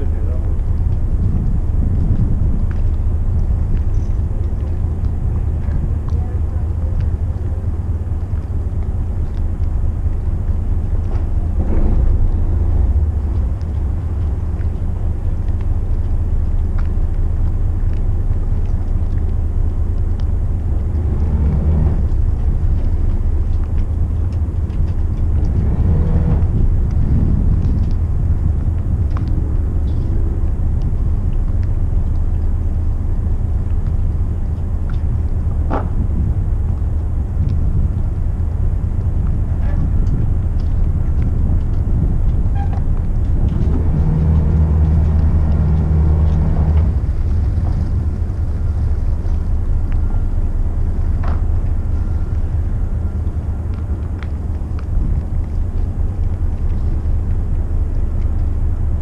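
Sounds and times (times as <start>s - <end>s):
diesel boat engines rumbling: 0.0s - 59.0s.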